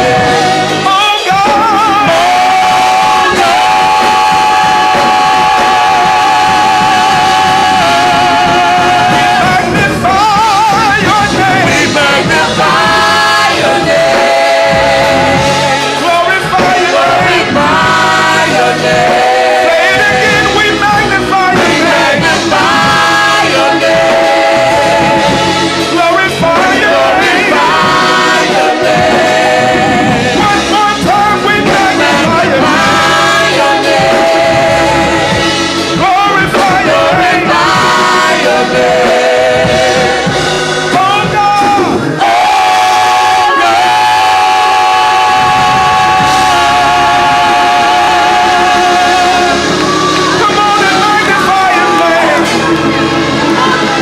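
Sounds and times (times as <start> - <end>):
gospel singing with instruments: 0.0 - 54.0.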